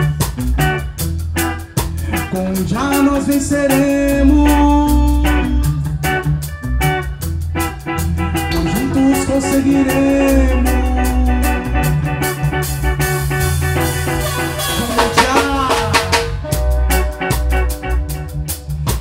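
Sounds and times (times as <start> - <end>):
live reggae band playing: 0.0 - 19.0
sliding bending guitar notes: 0.0 - 19.0.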